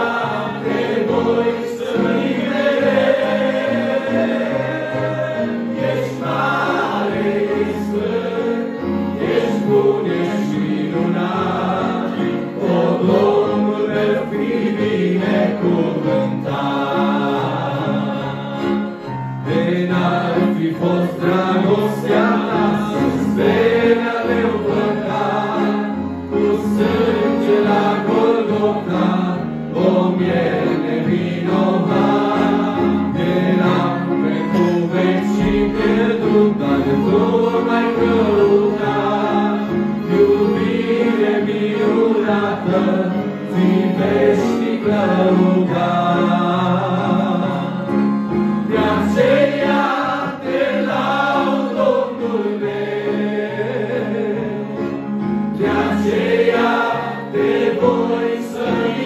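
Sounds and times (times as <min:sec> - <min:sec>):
electric keyboard: 0:00.0 - 0:59.0
group singing hymn in harmony: 0:00.0 - 0:59.0.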